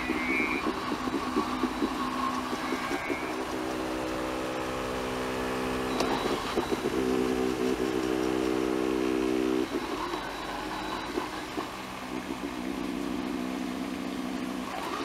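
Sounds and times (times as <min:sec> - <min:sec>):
robot lawnmower humming: 0:00.0 - 0:15.0.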